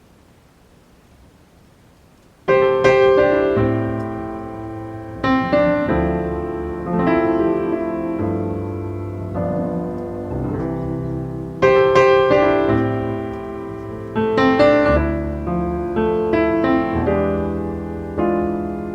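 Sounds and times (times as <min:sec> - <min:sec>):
slow piano chords: 0:02.4 - 0:18.9.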